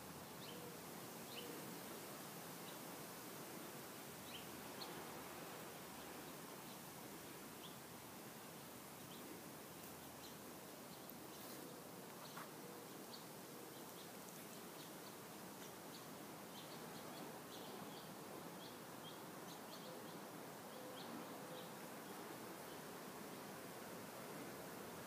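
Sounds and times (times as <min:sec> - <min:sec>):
faint birds chirping: 0:00.0 - 0:25.0
steady hiss: 0:00.0 - 0:25.0.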